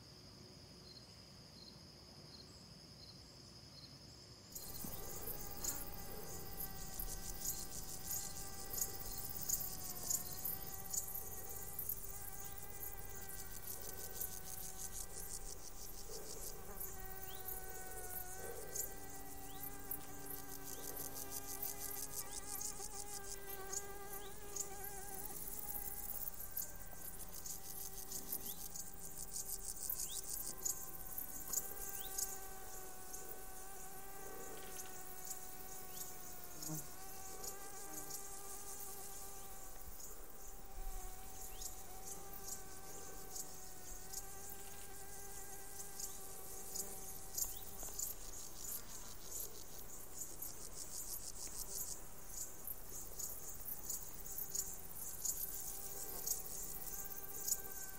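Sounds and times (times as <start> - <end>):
insects buzzing: 0.0 - 57.9.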